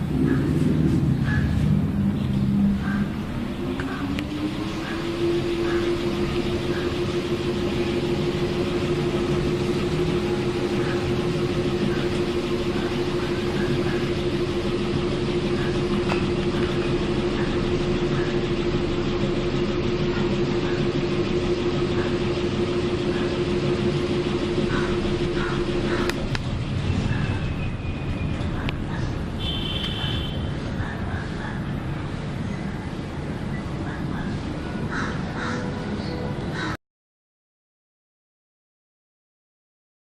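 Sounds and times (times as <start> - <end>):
fan rushing noise: 0.0 - 36.7
ceiling fan hum: 0.0 - 36.8.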